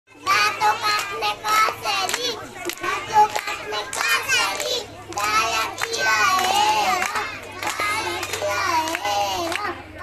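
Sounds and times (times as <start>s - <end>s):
child singing in a high voice: 0.1s - 9.9s.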